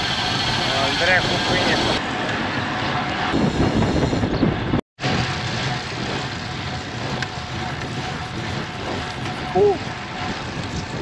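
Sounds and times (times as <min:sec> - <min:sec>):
bike tyre and road noise: 0:00.0 - 0:11.0
wind on microphone: 0:01.2 - 0:11.0.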